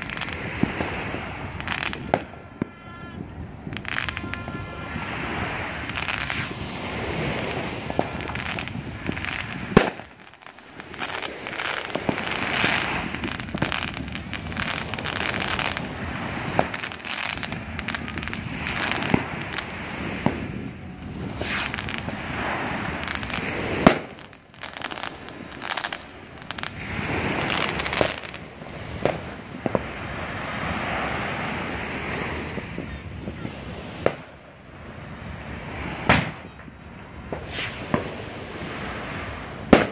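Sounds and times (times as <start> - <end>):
fireworks sharp bangs: 0.0 - 34.5, 35.6 - 39.9
fireworks crackling and fizzing: 0.0 - 39.9.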